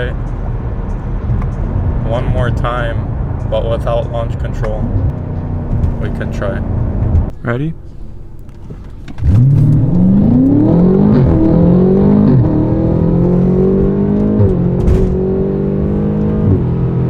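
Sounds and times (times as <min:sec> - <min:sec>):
car engine accelerating at full throttle: 0:00.5 - 0:07.3, 0:09.1 - 0:17.0.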